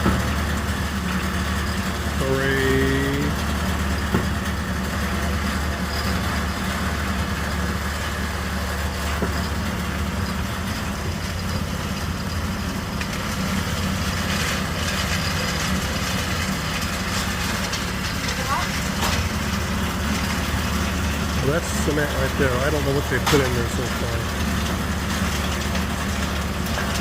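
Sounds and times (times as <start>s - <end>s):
concrete mixer engine running: 0.0s - 27.0s.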